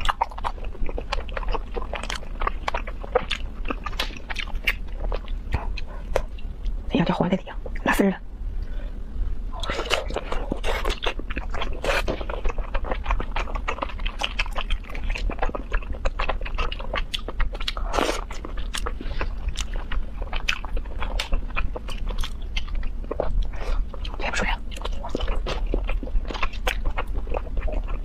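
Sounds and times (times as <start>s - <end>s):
chewing and biting food: 0.0s - 6.8s, 9.6s - 28.0s.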